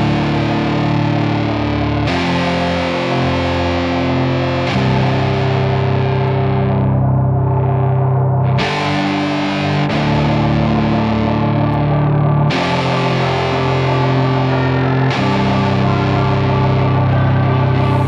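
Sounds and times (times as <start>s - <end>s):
distorted electric guitar chords: 0.0s - 18.0s
steady bass: 0.0s - 18.0s.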